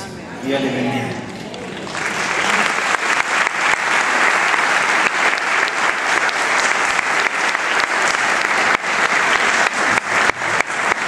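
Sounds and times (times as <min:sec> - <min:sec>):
congregation applauding: 0:01.2 - 0:11.0.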